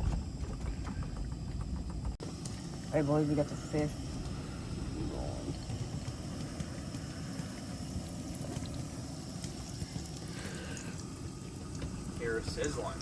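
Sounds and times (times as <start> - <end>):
fish frying in a pan: 2.1 - 13.0.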